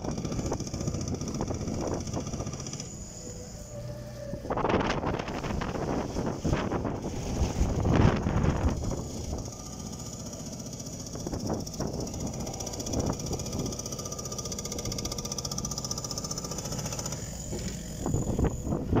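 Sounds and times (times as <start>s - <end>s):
construction machinery rattling: 0.0s - 19.0s.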